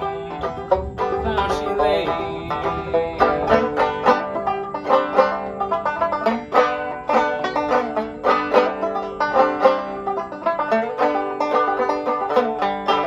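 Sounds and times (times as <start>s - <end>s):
banjo picking: 0.0s - 13.0s.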